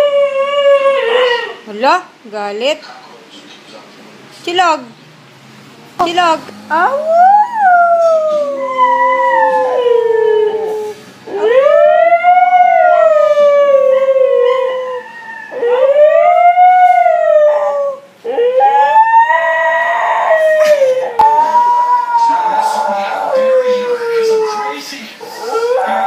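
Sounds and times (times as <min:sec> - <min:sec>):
dog howling: 0:00.0 - 0:01.6, 0:06.8 - 0:26.0.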